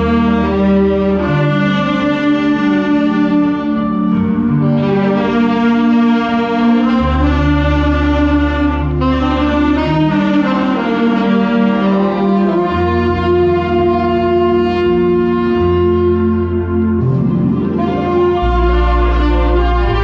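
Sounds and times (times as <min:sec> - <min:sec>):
low bass note: 0:00.0 - 0:20.0
saxophone ensemble holding chords: 0:00.0 - 0:20.0.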